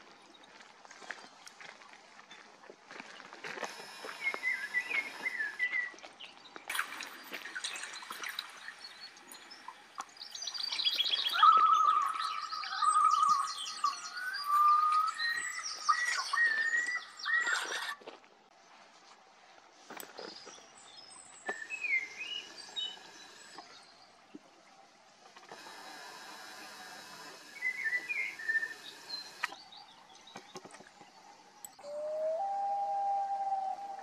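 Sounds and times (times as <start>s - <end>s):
wild birds singing and calling: 3.6s - 18.0s, 20.1s - 34.0s.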